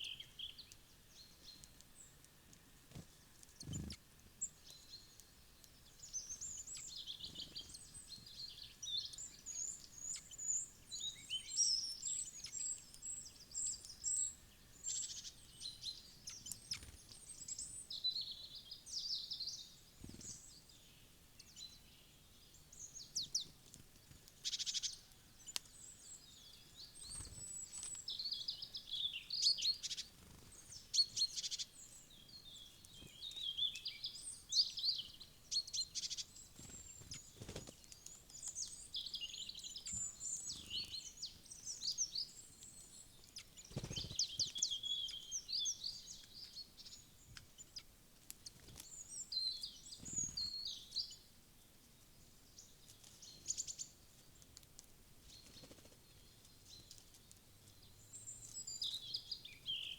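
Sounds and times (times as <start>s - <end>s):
birds chirping: 0.0s - 51.3s.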